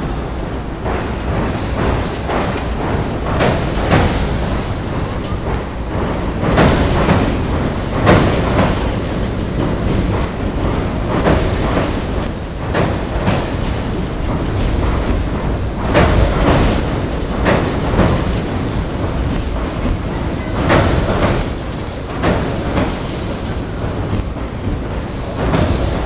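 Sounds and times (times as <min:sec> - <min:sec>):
train rumbling on bridge: 0:00.0 - 0:26.0
wheels clacking over rail joints: 0:00.0 - 0:26.0.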